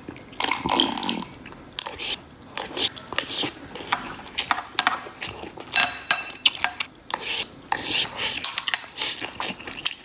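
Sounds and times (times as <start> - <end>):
utensils clinking and scraping bowl: 0.4 - 10.0.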